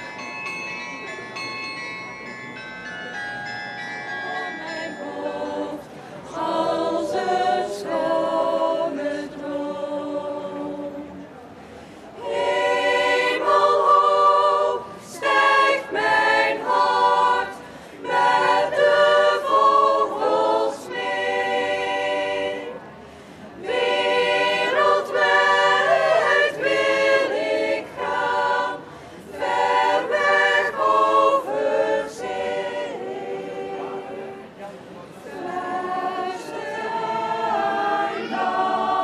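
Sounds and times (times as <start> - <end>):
women's choir singing: 4.6 - 11.3, 12.2 - 23.0, 23.6 - 39.0.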